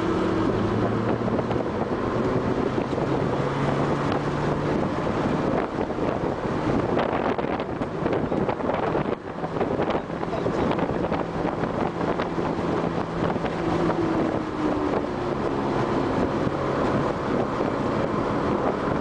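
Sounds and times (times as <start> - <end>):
car engine: 0.0 - 19.0
wind and road noise: 0.0 - 19.0.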